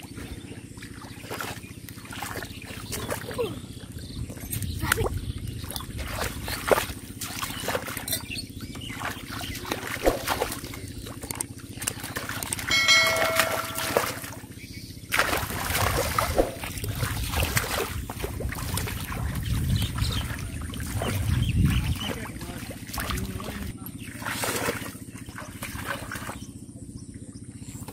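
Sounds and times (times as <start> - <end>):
muddy water splashing: 0.0 - 27.9.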